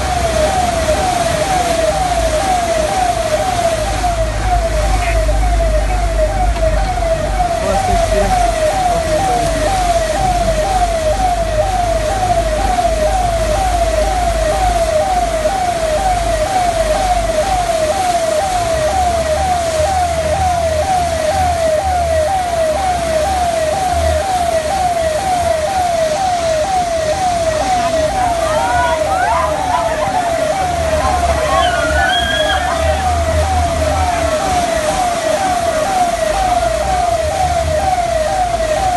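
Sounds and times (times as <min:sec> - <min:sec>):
electronic siren: 0:00.0 - 0:38.9.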